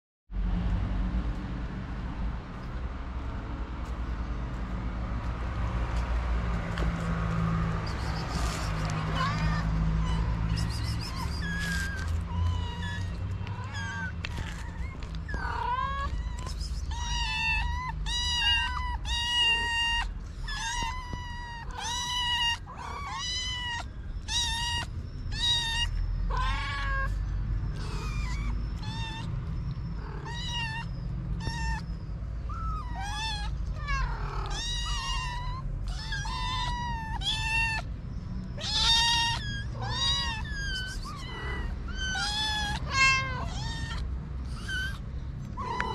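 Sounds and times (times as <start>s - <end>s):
kittens meowing: 7.7s - 45.9s.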